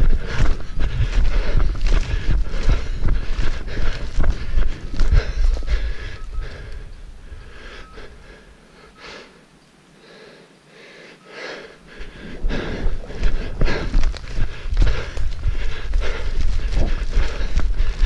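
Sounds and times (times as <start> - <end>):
running footsteps: 0.0 - 8.2, 11.4 - 18.0
heavy rhythmic breathing: 0.0 - 18.0.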